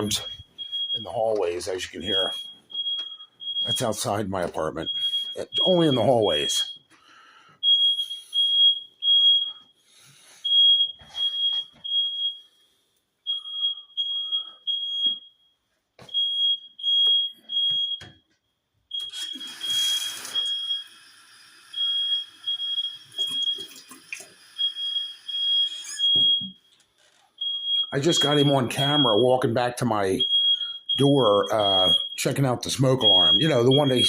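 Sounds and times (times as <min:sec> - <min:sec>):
smoke alarm beeps: 0:00.0 - 0:34.0.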